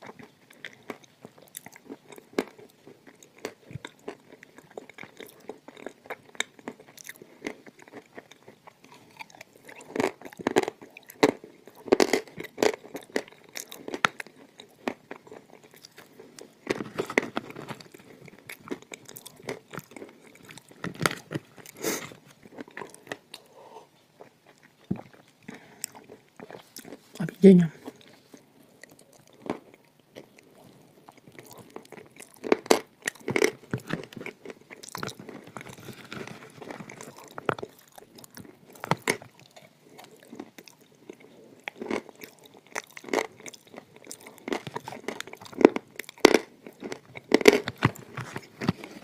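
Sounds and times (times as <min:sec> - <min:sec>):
crunchy chewing: 0:00.0 - 0:27.2, 0:27.8 - 0:49.0.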